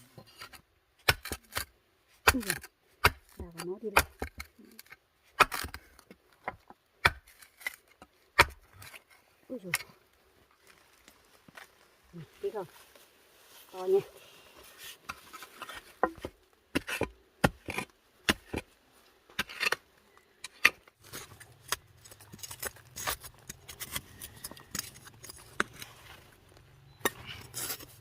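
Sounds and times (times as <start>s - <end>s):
digging knocks and scrapes: 0.0s - 10.0s, 14.5s - 28.0s.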